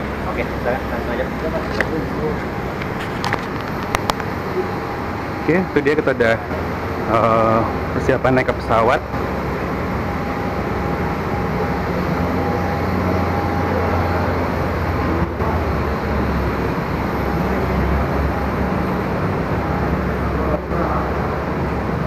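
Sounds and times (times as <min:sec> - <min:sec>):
airport apron rumble: 0:00.0 - 0:22.0
faint steady whine: 0:00.0 - 0:22.0.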